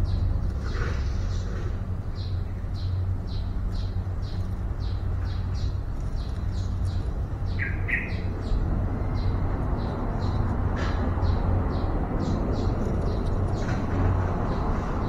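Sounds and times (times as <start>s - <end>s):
small bird chirping: 0.0s - 13.9s.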